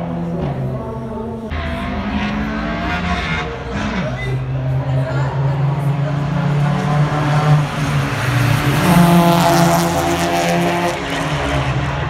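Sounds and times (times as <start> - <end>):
car engines accelerating hard: 0.0 - 12.0.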